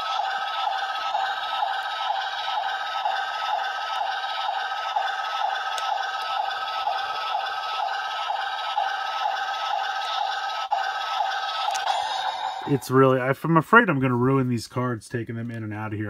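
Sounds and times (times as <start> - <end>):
toy belt electronic pulsating loop: 0.0 - 13.2.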